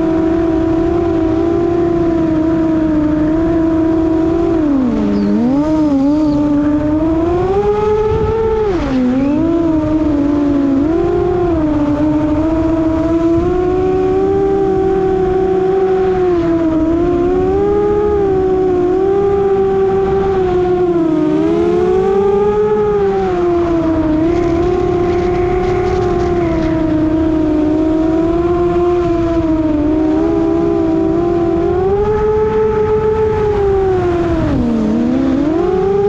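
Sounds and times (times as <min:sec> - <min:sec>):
drone motors whining: 0:00.0 - 0:36.0
wind rushing over microphone: 0:00.0 - 0:36.0.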